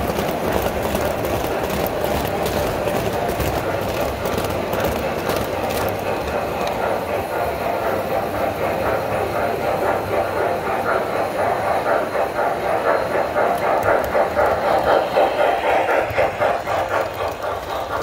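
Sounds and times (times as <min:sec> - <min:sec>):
toy train wheels clattering: 0:00.0 - 0:18.0.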